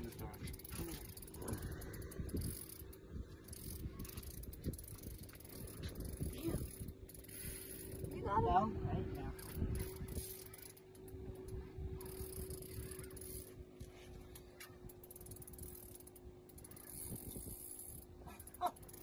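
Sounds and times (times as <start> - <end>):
fishing reel cranking and clicking: 0.0 - 8.3, 9.1 - 19.0
steady low hum: 0.0 - 19.0.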